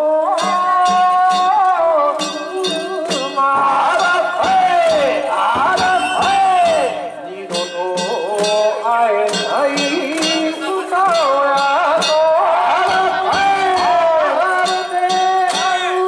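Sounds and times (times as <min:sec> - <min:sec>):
drum strikes: 0:00.4 - 0:16.0.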